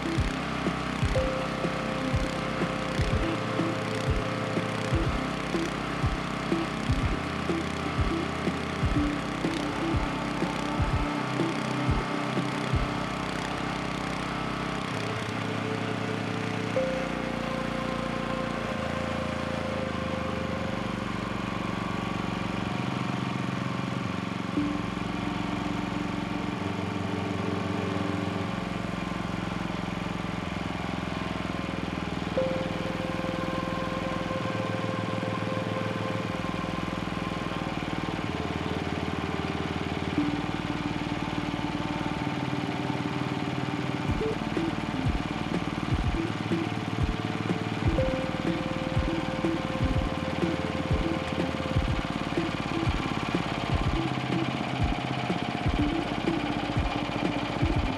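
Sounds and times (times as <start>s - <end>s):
small engine running steadily: 0.0s - 57.9s.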